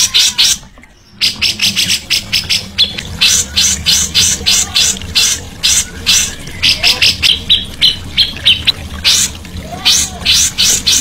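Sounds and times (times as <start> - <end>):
songbird harsh chattering: 1.2 - 11.0.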